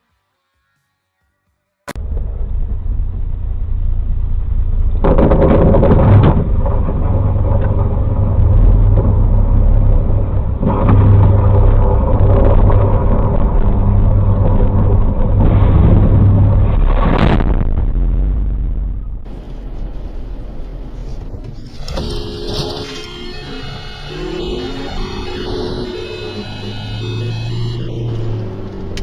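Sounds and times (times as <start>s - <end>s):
vehicle engine and road noise: 1.9s - 29.0s.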